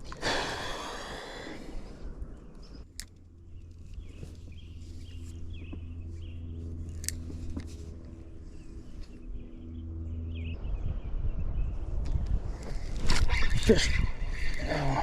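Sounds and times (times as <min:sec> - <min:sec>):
low motor hum: 0:00.0 - 0:13.0
birds chirping: 0:00.0 - 0:15.0.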